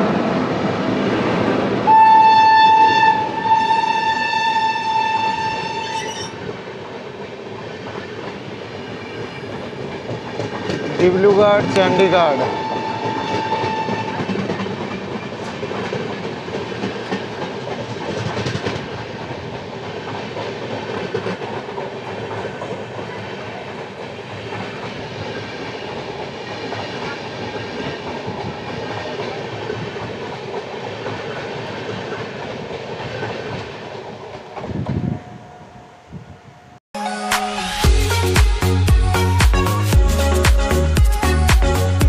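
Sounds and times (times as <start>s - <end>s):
passing train rushing: 0.0s - 36.8s.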